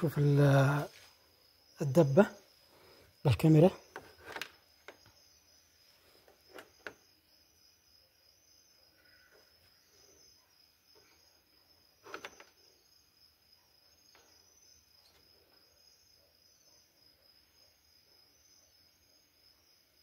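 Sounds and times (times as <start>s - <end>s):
high cricket chirping: 0.0s - 20.0s.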